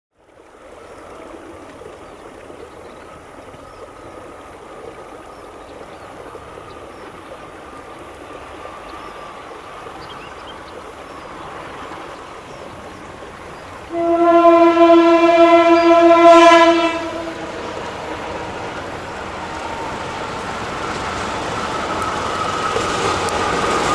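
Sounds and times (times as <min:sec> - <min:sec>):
train rumbling on track: 0:00.4 - 0:23.9.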